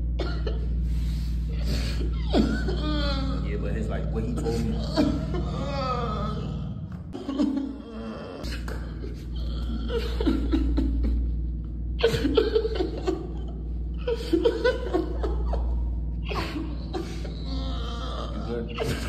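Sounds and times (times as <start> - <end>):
quiet background music: 0.0 - 19.0
person laughing: 1.6 - 19.0.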